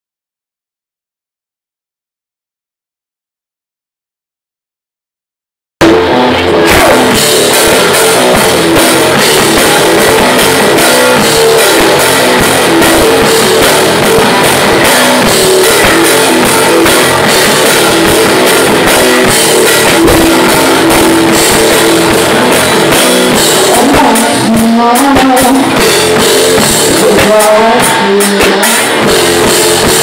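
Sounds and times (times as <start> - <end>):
bass guitar: 5.8 - 30.0
drum kit playing a driving beat: 5.8 - 30.0
electric guitar: 5.8 - 30.0.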